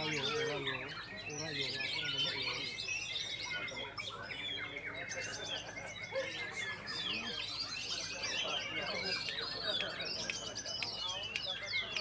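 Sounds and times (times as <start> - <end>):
birds whistling and trilling: 0.0 - 12.0.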